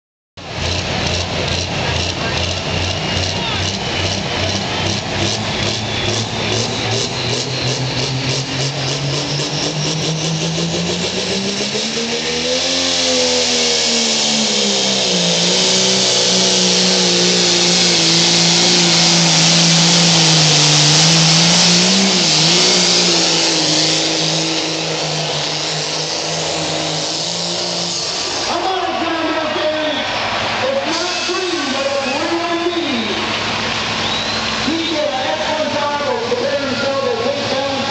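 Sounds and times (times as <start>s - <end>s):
tractor engine running hard: 0.4s - 37.9s.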